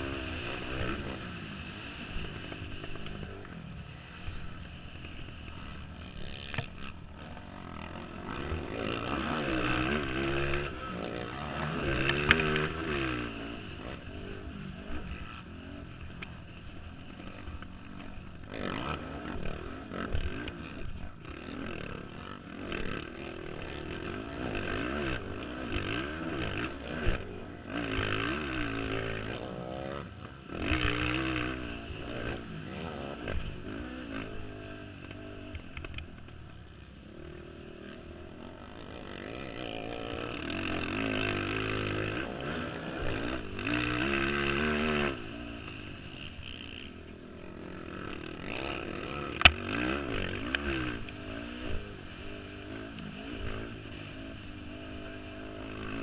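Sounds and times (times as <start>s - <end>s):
racing atv engines revving: 0.0s - 56.0s.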